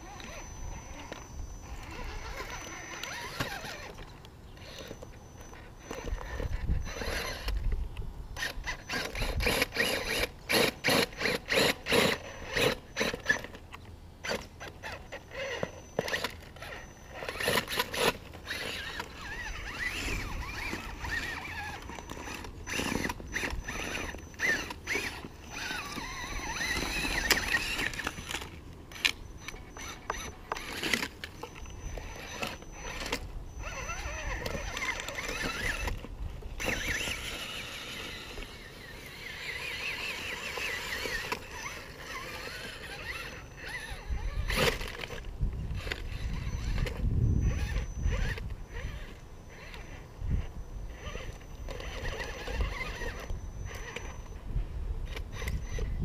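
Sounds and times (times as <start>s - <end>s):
toy car motor whining: 0.0s - 7.8s, 8.4s - 56.0s.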